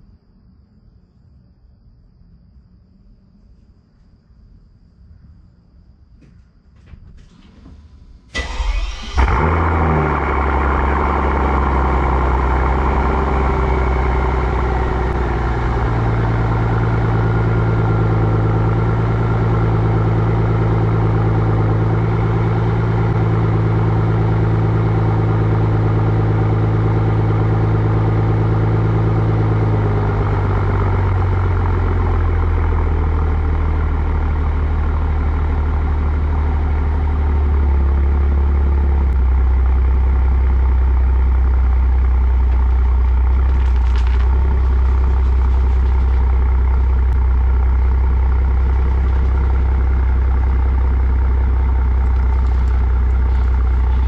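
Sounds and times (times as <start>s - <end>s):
car engine idling: 7.2s - 54.0s.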